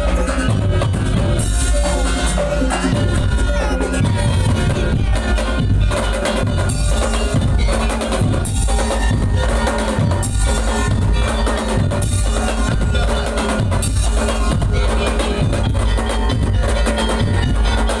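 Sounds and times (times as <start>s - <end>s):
heavy bass drum: 0.0s - 18.0s
percussion ensemble playing a beat: 0.0s - 18.0s.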